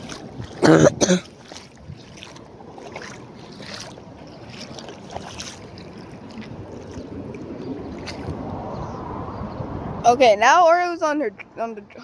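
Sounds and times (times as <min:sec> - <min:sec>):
water splashes: 0:00.0 - 0:12.0
wind rumbling on microphone: 0:00.0 - 0:12.0.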